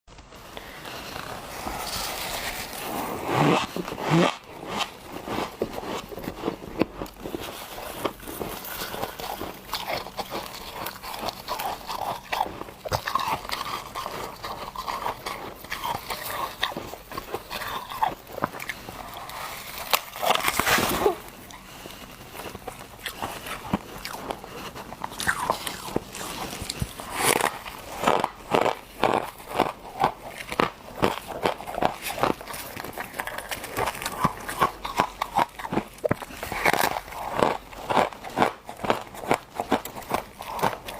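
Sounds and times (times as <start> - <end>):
person crunching frost: 0.3 - 40.9.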